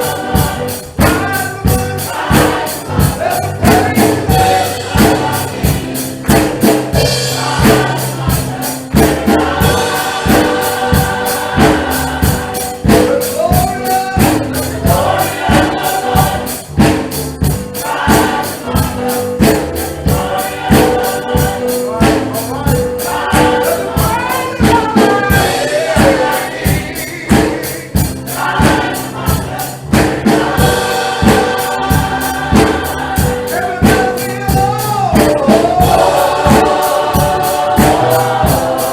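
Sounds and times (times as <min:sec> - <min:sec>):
gospel choir singing: 0:00.0 - 0:38.9
tambourine and percussion beat: 0:00.0 - 0:38.9.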